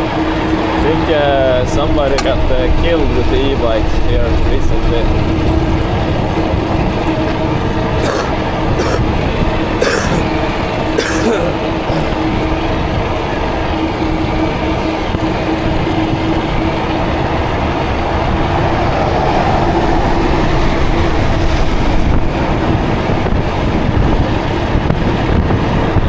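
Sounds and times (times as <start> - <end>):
road noise: 0.0 - 26.0
wind on microphone: 0.0 - 26.0.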